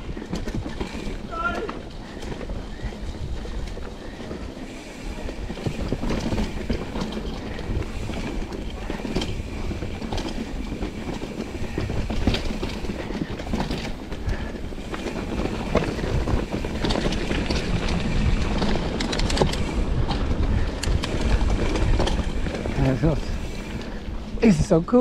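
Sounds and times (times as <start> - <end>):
bike rattling and clicking: 0.0 - 25.0
wind rumble on microphone: 0.0 - 25.0.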